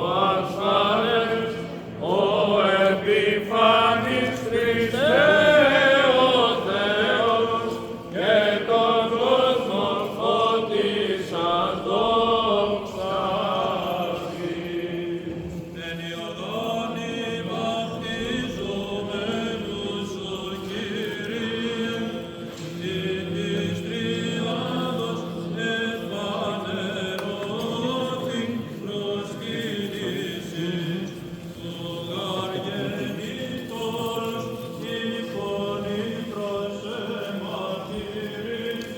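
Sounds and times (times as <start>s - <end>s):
voices chanting unaccompanied: 0.0s - 38.9s.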